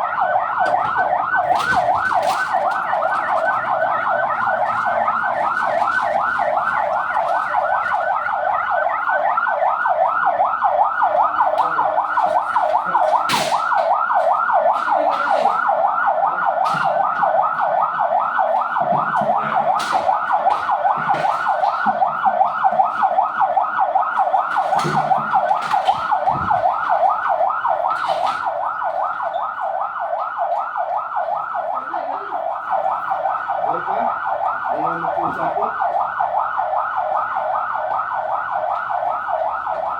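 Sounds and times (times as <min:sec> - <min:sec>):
electronic siren yelping: 0:00.0 - 0:39.9.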